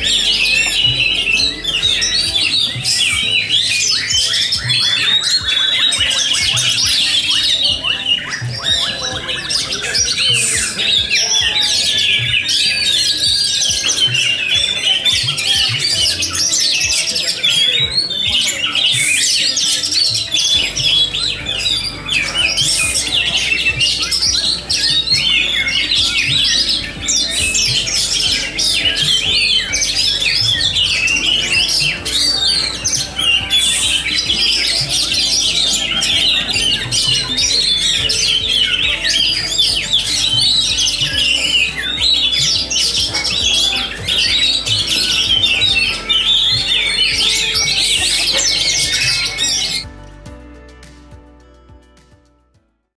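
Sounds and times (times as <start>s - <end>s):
birds harsh chattering calls: 0.0s - 50.8s
many songbirds singing: 0.0s - 50.8s.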